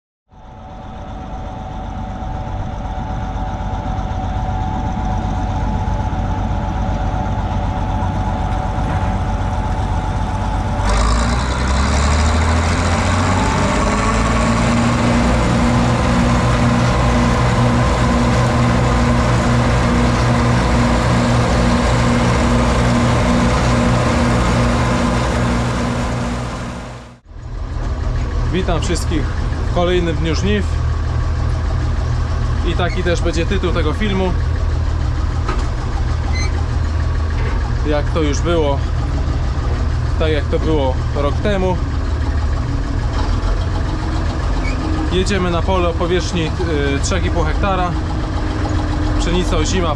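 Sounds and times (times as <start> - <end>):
diesel engine running: 0.3 - 49.9.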